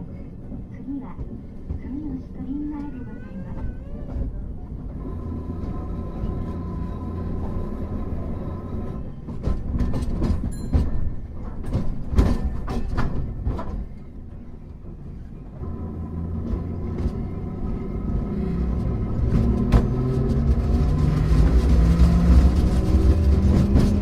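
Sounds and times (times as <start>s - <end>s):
tram rumbling and humming: 0.0s - 24.0s
wheels clacking on track: 0.0s - 24.0s.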